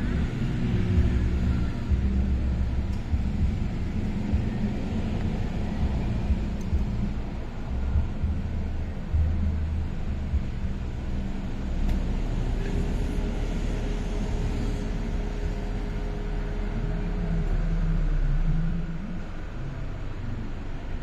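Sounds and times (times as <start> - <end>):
faint steady hum: 0.0 - 21.0
low engine rumble: 0.0 - 21.0.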